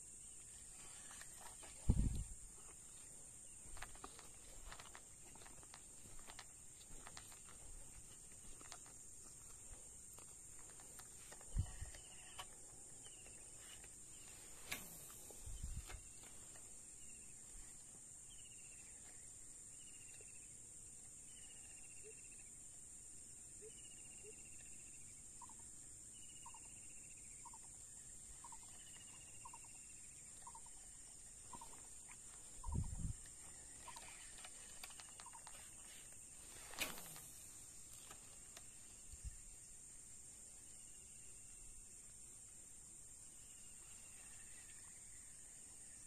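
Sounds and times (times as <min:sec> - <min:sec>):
high drone of insects: 0:00.0 - 0:46.0.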